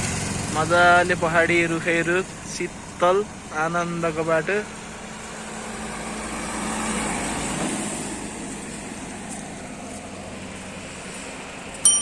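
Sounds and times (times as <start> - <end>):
vehicle engine and road noise: 0.0 - 11.8.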